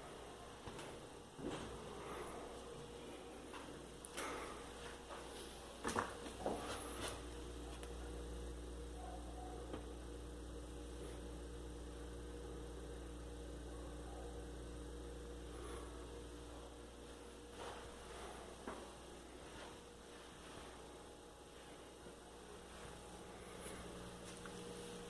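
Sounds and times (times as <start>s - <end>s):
refrigerator humming: 0.0s - 25.0s.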